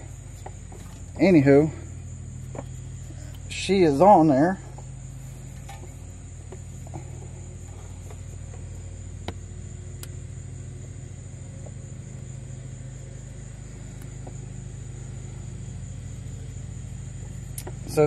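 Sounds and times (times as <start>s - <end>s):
faint high whine: 0.0s - 18.0s
low hum: 0.0s - 18.0s.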